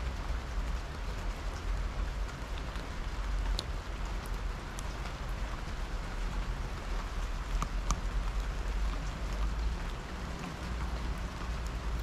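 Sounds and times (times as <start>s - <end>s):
rain falling on table and plants: 0.0s - 12.0s.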